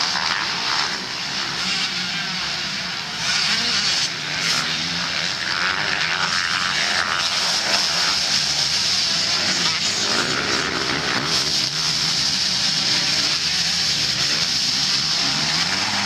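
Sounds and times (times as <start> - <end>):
motocross bikes racing: 0.0 - 16.0.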